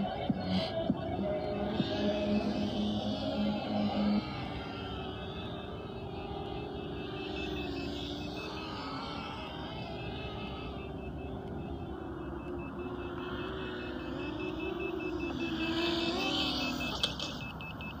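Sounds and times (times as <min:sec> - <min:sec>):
quadcopter motors whining: 0:00.0 - 0:18.0
rapid high beeps: 0:00.0 - 0:18.0.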